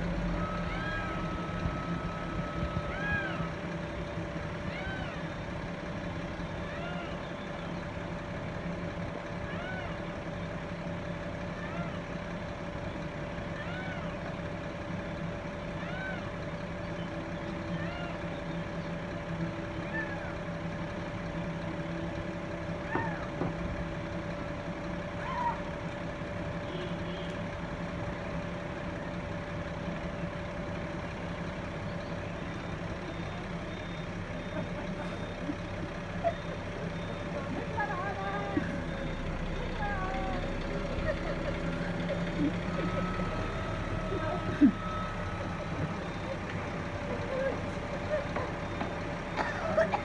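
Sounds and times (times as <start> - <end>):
fire truck engine humming: 0.0 - 50.0.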